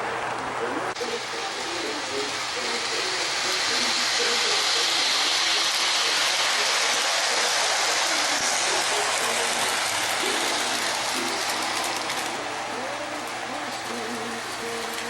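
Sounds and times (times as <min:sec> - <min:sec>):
faint voices or music: 0:00.0 - 0:15.0
model train rolling hiss and rumble: 0:00.0 - 0:15.0.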